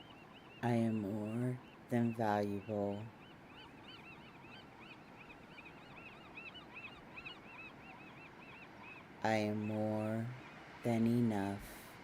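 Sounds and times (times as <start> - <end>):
flock of birds calling: 0.0 - 10.7
faint steady hiss: 0.0 - 12.0.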